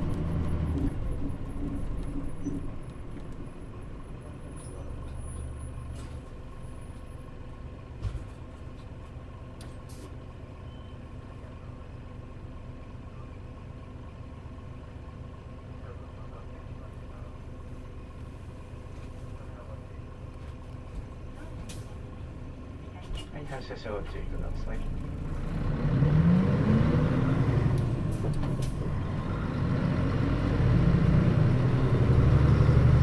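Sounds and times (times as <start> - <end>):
bus diesel engine idling: 0.0 - 32.5.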